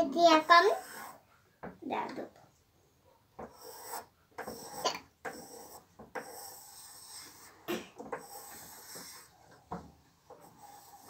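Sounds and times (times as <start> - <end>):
pencil scribbling on paper: 0.0 - 1.3, 3.4 - 11.0.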